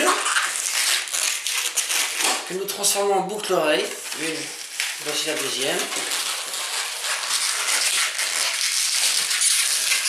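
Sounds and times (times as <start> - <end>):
crackly rubbing of balloon latex: 0.0 - 10.0.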